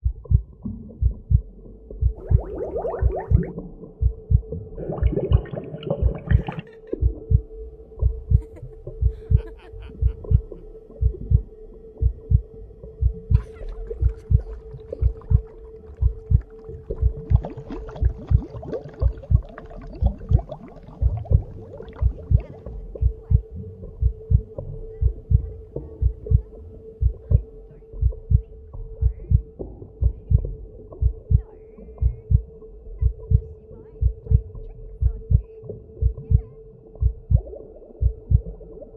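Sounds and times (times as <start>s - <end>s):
heartbeat thumps: 0.0s - 38.8s
constant hum: 0.0s - 38.9s.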